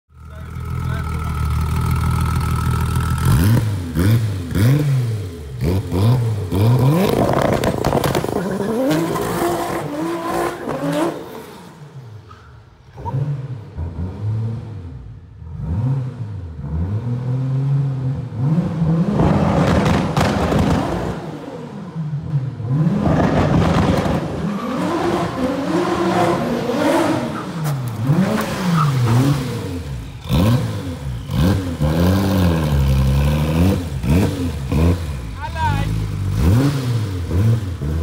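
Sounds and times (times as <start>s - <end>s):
car engine revving: 0.2s - 12.0s, 12.9s - 38.0s.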